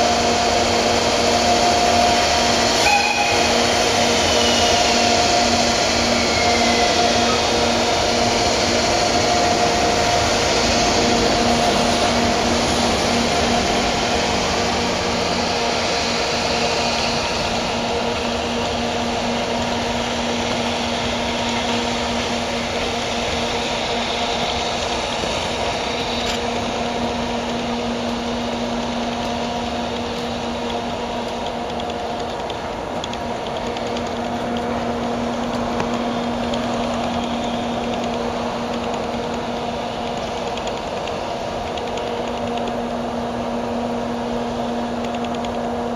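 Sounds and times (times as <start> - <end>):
freight train wheels rumbling on rail: 0.0 - 45.9.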